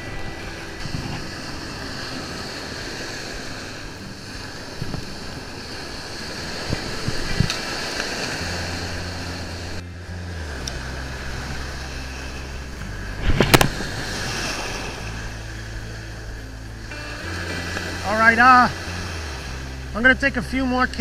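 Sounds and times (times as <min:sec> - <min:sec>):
wind on microphone: 0:00.0 - 0:18.0
surf breaking on sand: 0:00.0 - 0:21.0.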